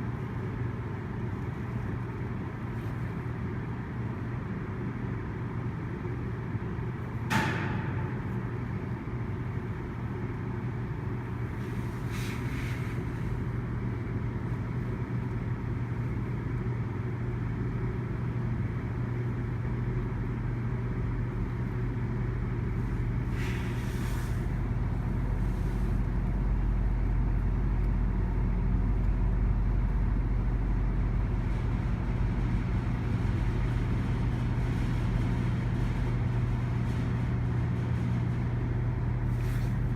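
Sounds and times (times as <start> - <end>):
train engine hum: 0.0 - 39.9.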